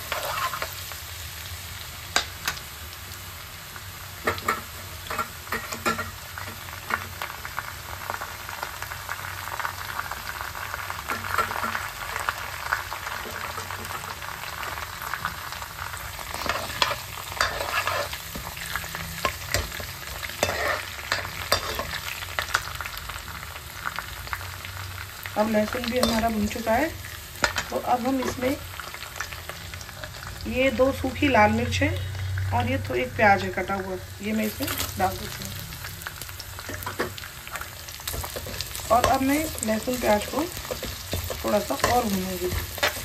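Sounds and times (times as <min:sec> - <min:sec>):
garlic sizzling in oil: 0:00.0 - 0:43.0.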